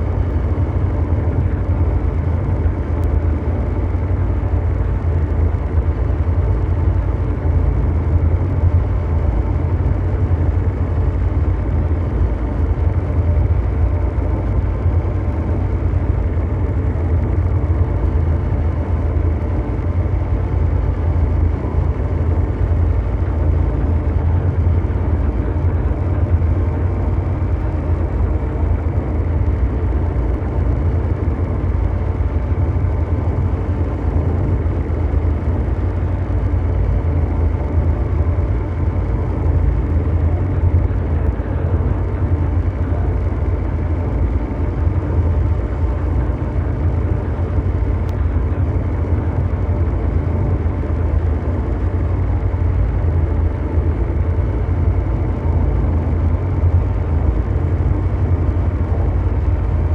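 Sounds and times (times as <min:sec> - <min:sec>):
low mechanical drone: 0:00.0 - 0:59.9.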